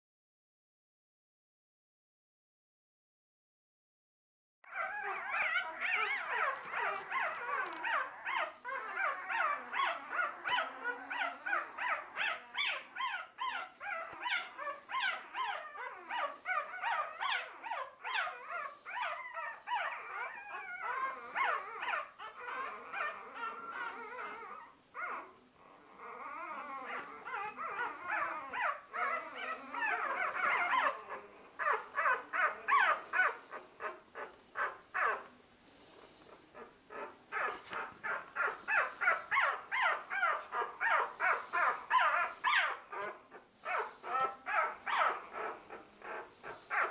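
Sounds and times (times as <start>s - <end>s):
puppies crying and whimpering: 4.7s - 46.9s.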